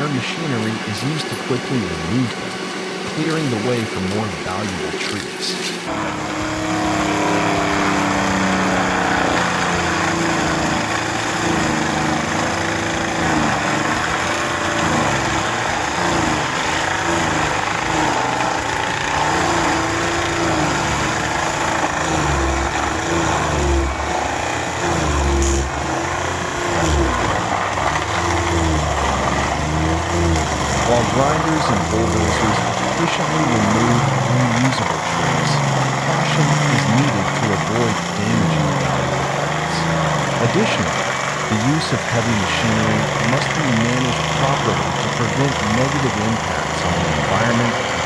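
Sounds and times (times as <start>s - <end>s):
heavy machine engine running: 0.0s - 48.0s.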